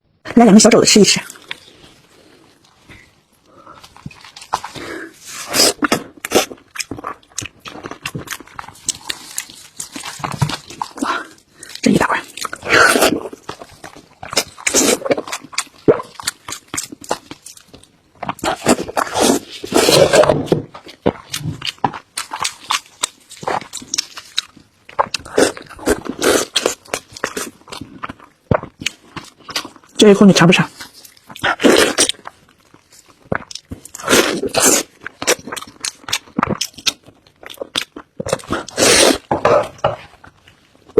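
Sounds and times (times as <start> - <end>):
person chewing with wet smacking: 2.6 - 40.9.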